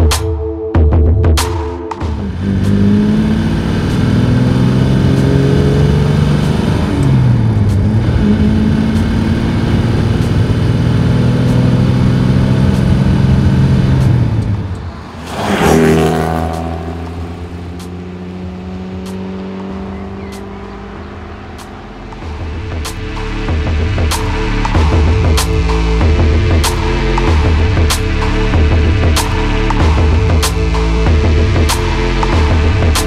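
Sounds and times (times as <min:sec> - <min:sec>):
car engine accelerating: 0:02.0 - 0:33.0.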